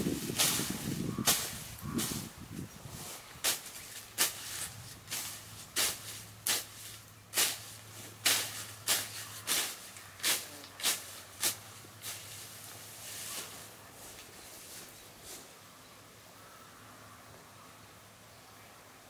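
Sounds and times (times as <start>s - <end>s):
sickle swishing through stems: 0.0s - 15.5s.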